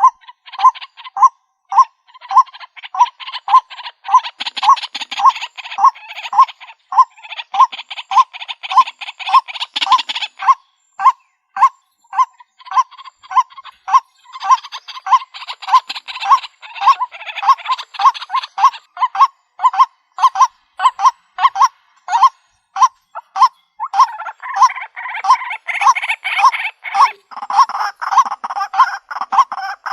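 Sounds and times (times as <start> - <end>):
waterhen croaking call: 0.0 - 29.9.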